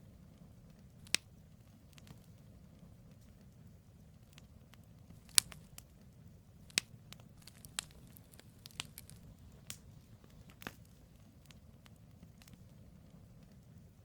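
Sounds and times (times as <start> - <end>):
campfire crackles and pops: 0.0 - 14.0
low fire rumble: 0.0 - 14.0.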